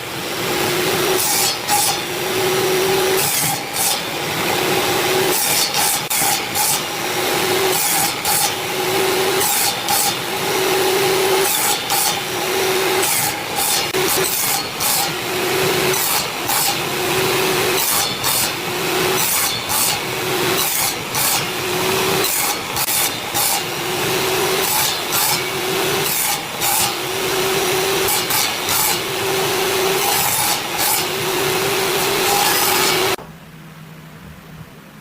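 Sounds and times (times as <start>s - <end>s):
hand saw cutting wood: 0.0s - 33.2s.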